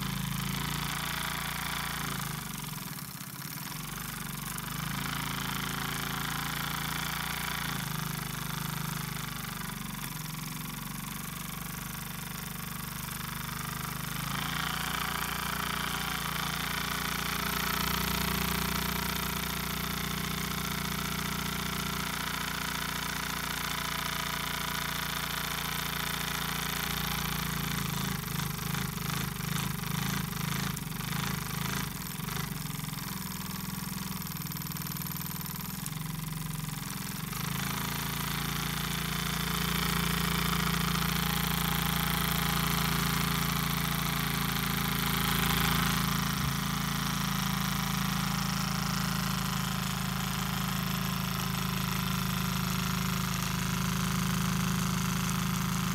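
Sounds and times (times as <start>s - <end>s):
model steam engine chuffing: 0.0s - 55.9s.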